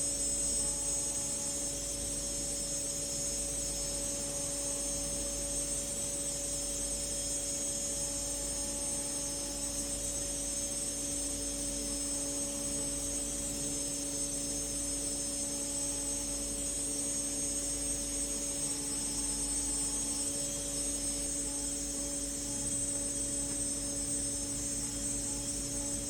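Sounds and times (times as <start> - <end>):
milling machine spindle whine: 0.0 - 26.0.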